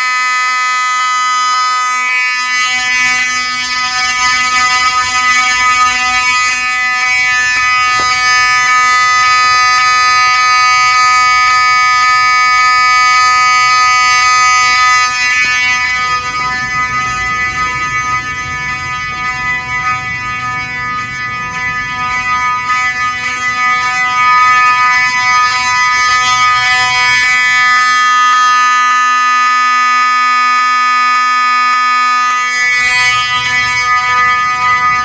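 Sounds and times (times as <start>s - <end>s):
fire alarm buzzing horn: 0.0s - 35.0s.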